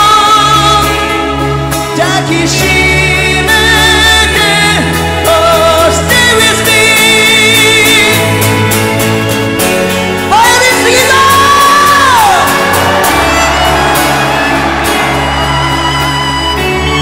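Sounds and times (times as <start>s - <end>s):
rock ballad with singing: 0.0s - 17.0s.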